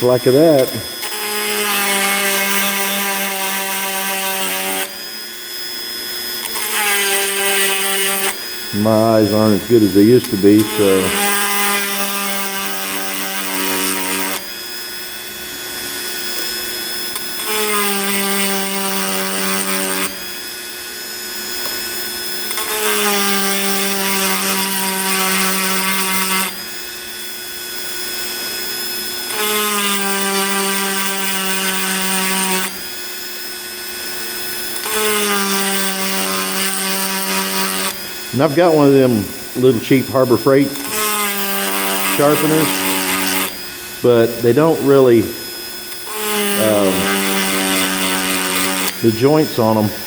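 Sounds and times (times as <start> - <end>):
rotary tool grinding: 0.0 - 50.0.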